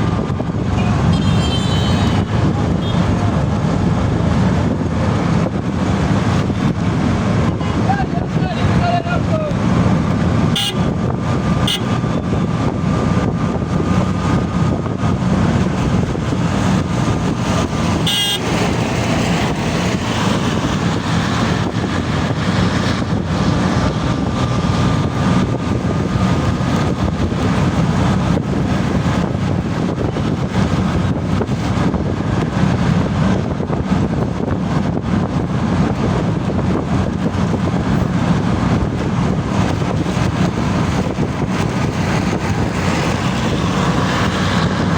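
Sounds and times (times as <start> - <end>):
road traffic noise: 0.0 - 44.9
vehicle engine low rumble: 0.0 - 44.9.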